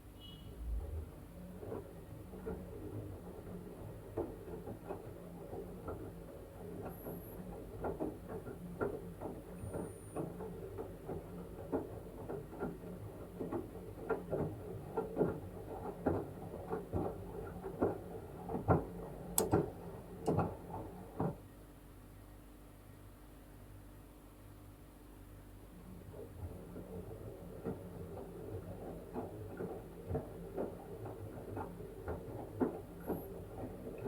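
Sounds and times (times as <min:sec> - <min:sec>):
washing machine low hum: 0:00.0 - 0:34.0.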